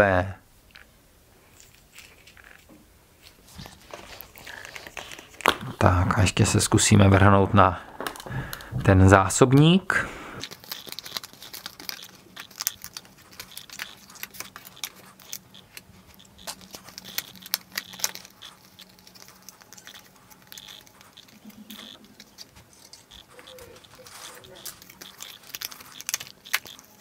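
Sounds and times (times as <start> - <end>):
card rustling: 1.6 - 27.0.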